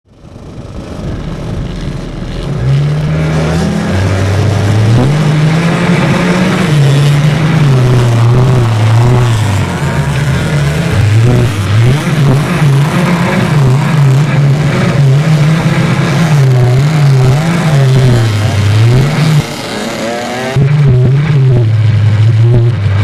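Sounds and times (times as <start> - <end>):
quad bike engines revving: 0.1 - 23.0.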